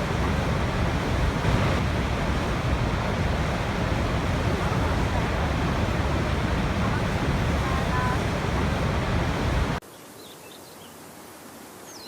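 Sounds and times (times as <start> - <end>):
waterfall roaring: 0.0 - 9.8.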